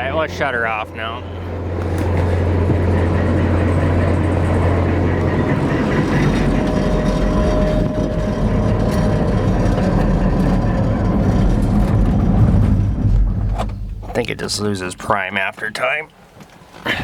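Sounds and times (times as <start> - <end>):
diesel engine running: 0.0 - 15.3.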